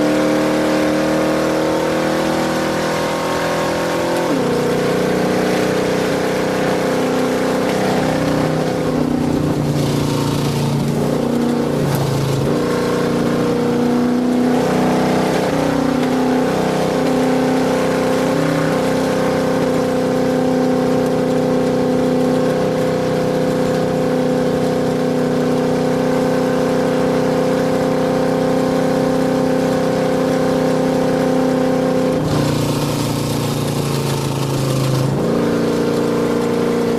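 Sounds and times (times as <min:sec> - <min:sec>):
truck engine running hard: 0:00.0 - 0:36.9.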